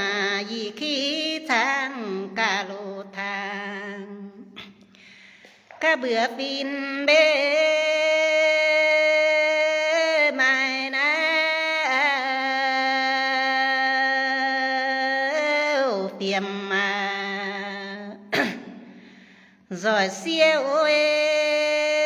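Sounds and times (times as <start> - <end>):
woman singing unaccompanied: 0.0 - 4.6, 5.7 - 18.3, 19.7 - 22.0.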